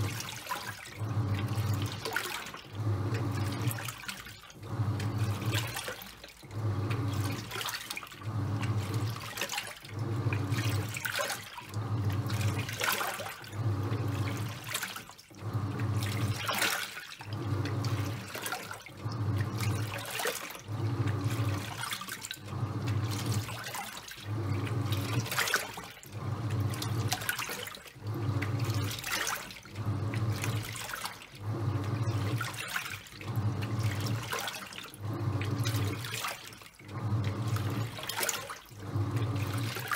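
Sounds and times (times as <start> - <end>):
washing machine motor humming: 0.0 - 39.9
water sloshing: 0.0 - 39.9.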